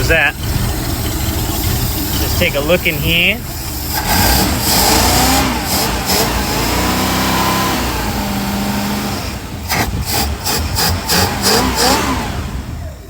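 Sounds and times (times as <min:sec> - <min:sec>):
car engine idling: 0:00.0 - 0:13.0
engine throttle blips: 0:00.0 - 0:13.0.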